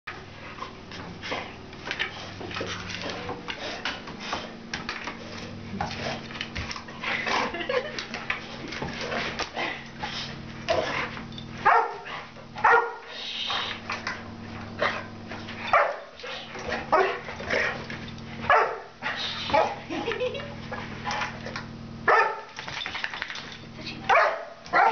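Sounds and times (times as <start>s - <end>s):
steady low hum: 0.1s - 24.9s.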